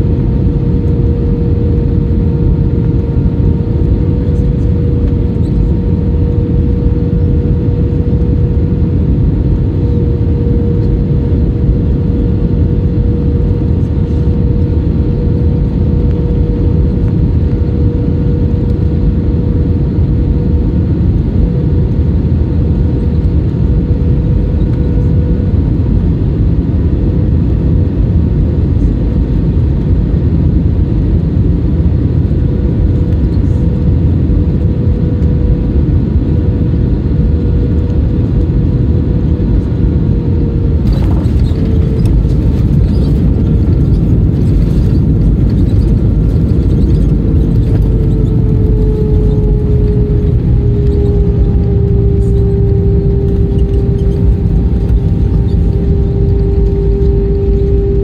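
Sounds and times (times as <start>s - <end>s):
airliner engines and airflow rumble: 0.0s - 58.0s
constant hum: 0.0s - 58.0s.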